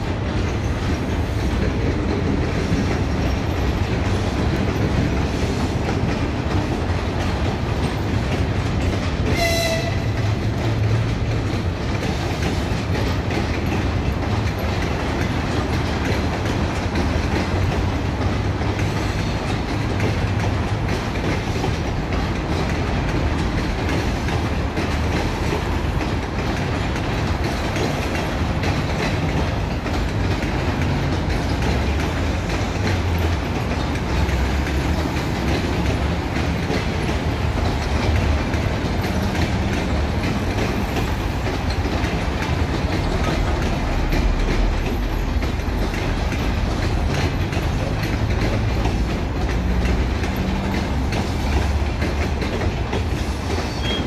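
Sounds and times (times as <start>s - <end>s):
train coaches rumbling past: 0.0s - 54.0s
wheels clicking over rail joints: 0.0s - 54.0s.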